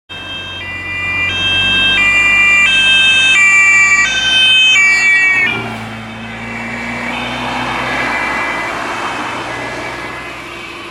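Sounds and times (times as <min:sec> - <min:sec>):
two-tone police siren: 0:00.1 - 0:10.9
vehicle hum: 0:00.1 - 0:10.9.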